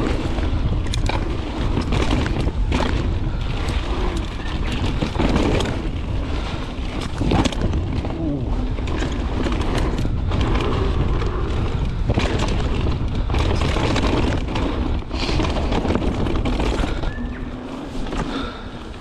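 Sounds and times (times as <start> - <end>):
bike rattling: 0.0 - 19.0
tyres rumbling over dirt and rocks: 0.0 - 19.0
wind buffeting microphone: 0.0 - 19.0.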